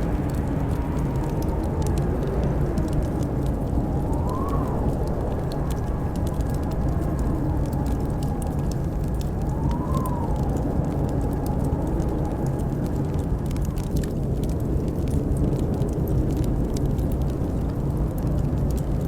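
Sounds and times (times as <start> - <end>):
blizzard wind rumbling: 0.0 - 19.0
wind howling: 0.0 - 19.0
wood fire crackling: 0.0 - 19.0.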